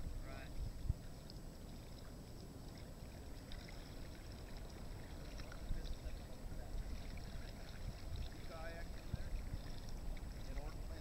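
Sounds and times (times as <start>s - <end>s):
light water splashes: 0.0s - 11.0s
steady low rumble: 0.0s - 11.0s
kayak paddle dipping in water: 0.6s - 11.0s.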